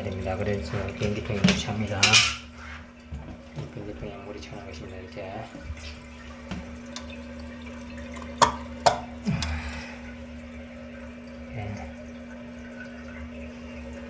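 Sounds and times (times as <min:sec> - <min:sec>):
water running into toilet tank: 0:00.0 - 0:14.0.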